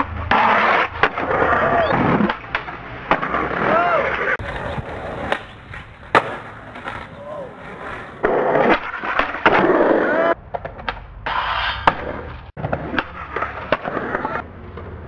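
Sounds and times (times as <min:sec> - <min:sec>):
skateboard clacking on ground: 0:00.0 - 0:15.0
skateboard wheels rolling on pavement: 0:00.0 - 0:15.0.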